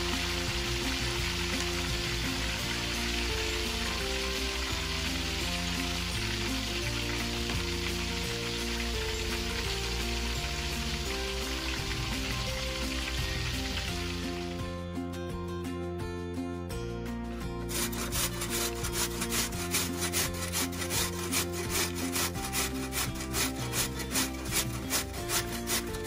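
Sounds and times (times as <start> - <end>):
oil sizzling while deep-frying: 0.0 - 14.7, 17.6 - 26.0
soft background music: 0.0 - 26.0.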